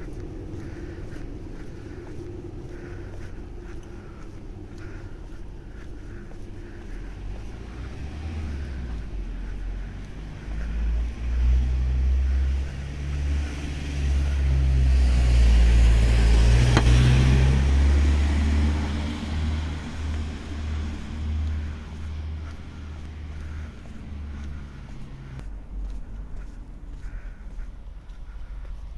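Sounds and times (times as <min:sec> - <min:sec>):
car engine rumble: 0:00.0 - 0:28.9.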